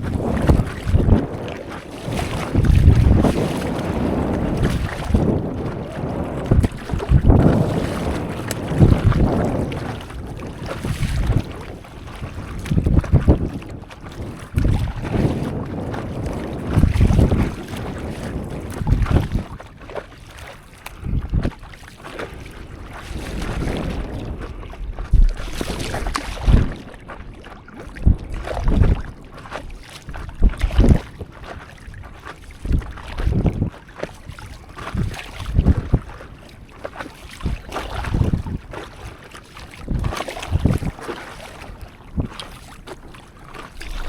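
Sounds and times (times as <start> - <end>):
water splashing and sloshing: 0.0 - 44.0
wind buffeting microphone: 0.0 - 44.0.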